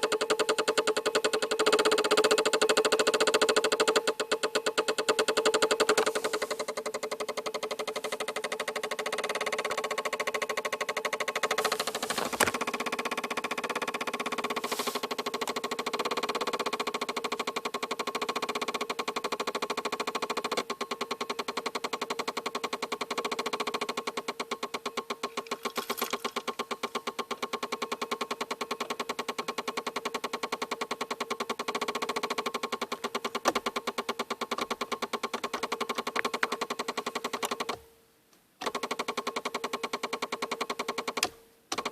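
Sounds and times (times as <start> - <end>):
fast mechanical ticking: 0.0 - 37.8, 38.6 - 41.9.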